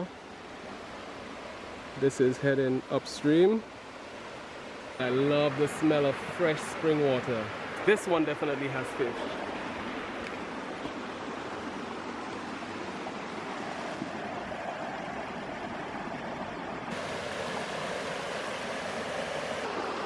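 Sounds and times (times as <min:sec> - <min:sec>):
stream running over rocks: 0:00.0 - 0:20.0.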